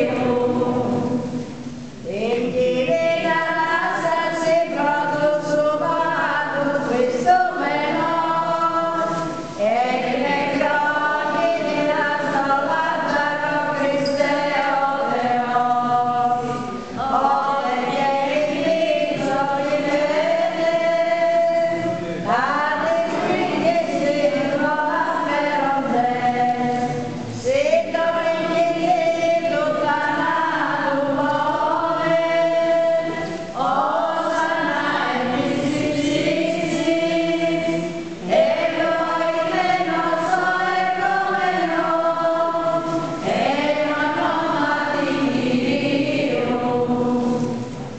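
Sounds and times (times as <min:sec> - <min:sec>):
choir chanting: 0:00.0 - 0:01.5, 0:02.1 - 0:47.9.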